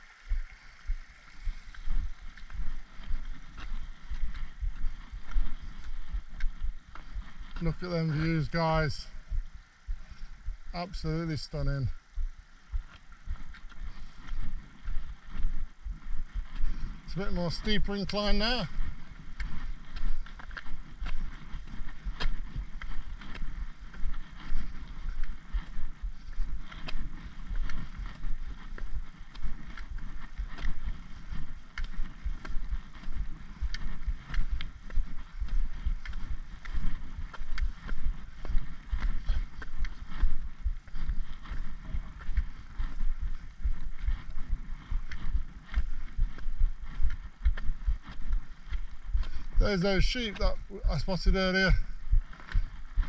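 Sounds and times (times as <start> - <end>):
wind buffeting microphone: 0.0 - 11.0, 11.6 - 53.0
footsteps on tarmac: 0.0 - 53.0.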